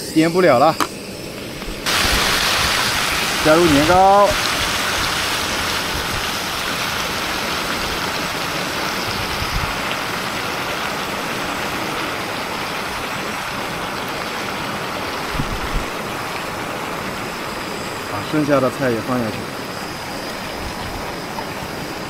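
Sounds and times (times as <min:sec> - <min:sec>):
stove burner hissing: 0:00.0 - 0:22.0.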